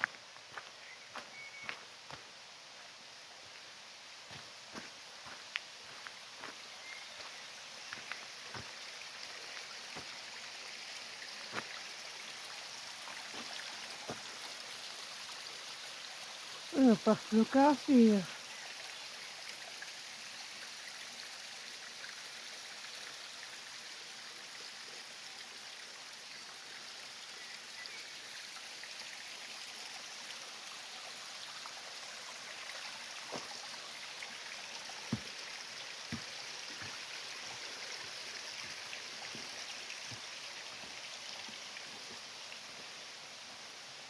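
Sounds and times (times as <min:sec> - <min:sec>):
mountain stream running: 0:00.0 - 0:44.0.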